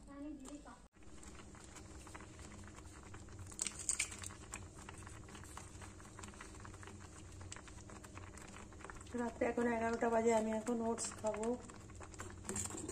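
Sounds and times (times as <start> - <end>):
porridge simmering and popping: 0.2 - 12.9.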